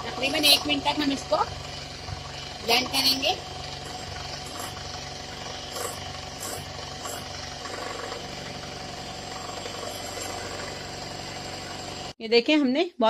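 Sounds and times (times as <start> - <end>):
electric hand mixer whipping: 0.0 - 12.2.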